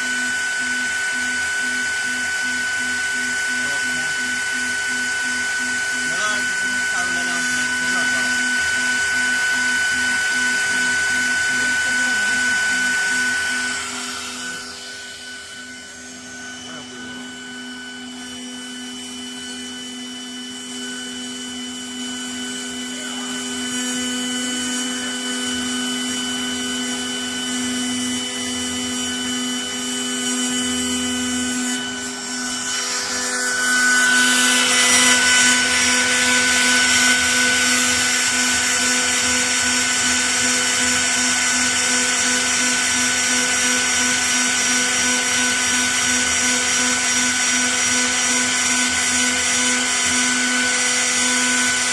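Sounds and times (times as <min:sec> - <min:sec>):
router spindle whining: 0:00.0 - 0:51.9.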